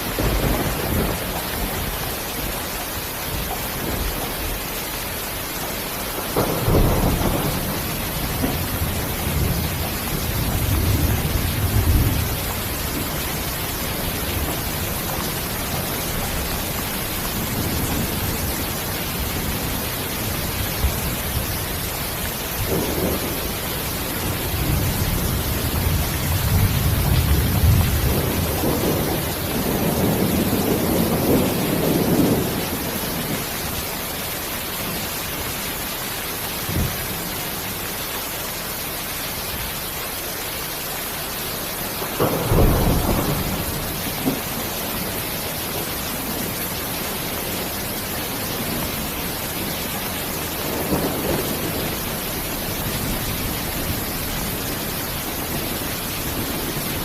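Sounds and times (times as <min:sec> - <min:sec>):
thunder rumbling: 0:00.0 - 0:33.8, 0:42.0 - 0:57.0
rain hissing: 0:00.0 - 0:57.0.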